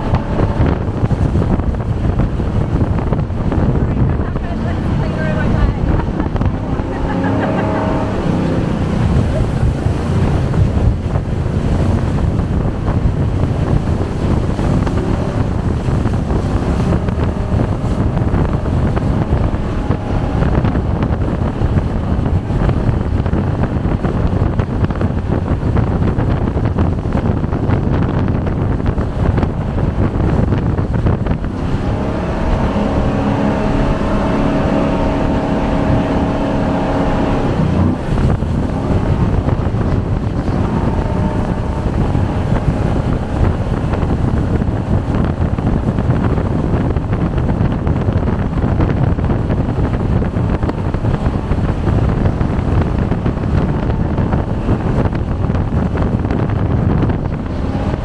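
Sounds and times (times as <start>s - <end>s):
boat engine running: 0.0s - 58.0s
wind buffeting microphone: 0.0s - 58.0s.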